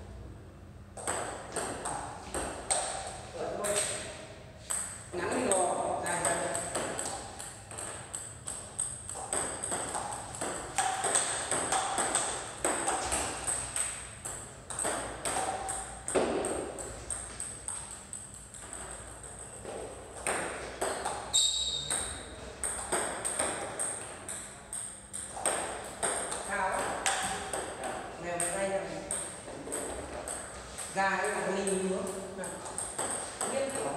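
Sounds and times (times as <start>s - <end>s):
table tennis balls clicking: 1.0s - 33.9s.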